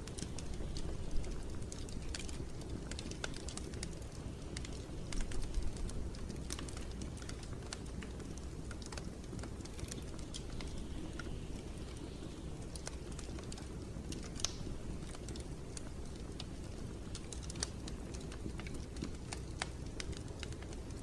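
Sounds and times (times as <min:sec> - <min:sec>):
low rumble of flame: 0:00.0 - 0:21.0
wood fire crackling: 0:00.0 - 0:21.0.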